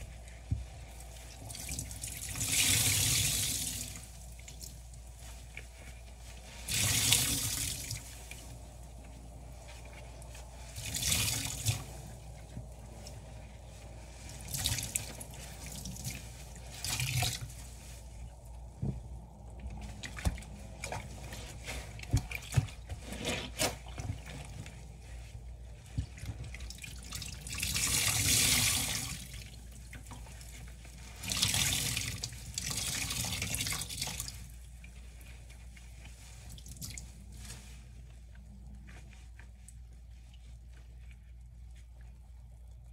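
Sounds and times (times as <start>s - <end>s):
sponges squishing and dripping: 0.0s - 42.9s.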